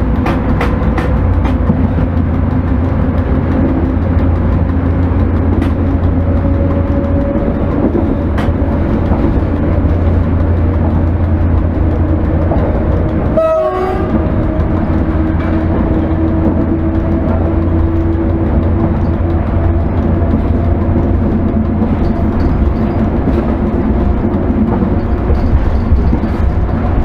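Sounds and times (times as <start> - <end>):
locomotive cab hum: 0.0 - 27.0
sharp clicks of rail joints: 0.0 - 27.0
wheel-on-rail rumble: 0.0 - 27.0.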